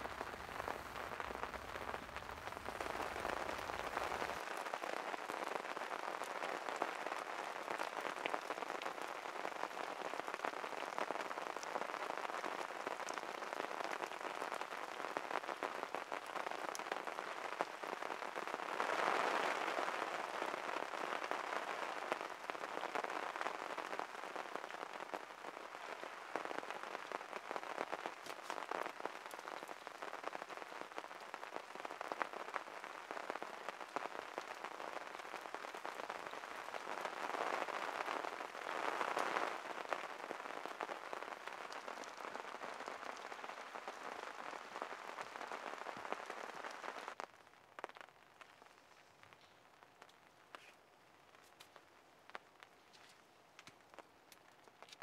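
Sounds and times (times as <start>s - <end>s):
burning tinder crackling: 0.0s - 55.0s
rain hissing: 0.0s - 55.0s.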